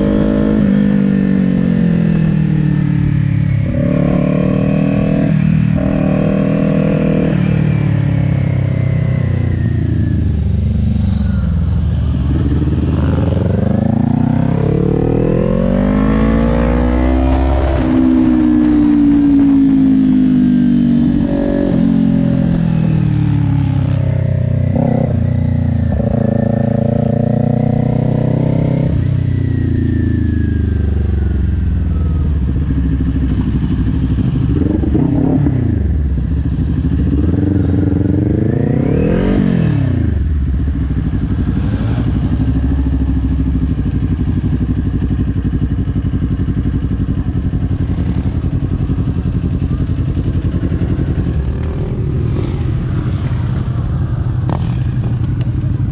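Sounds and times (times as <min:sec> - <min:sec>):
motorcycle engine revving and idling: 0:00.0 - 0:55.9.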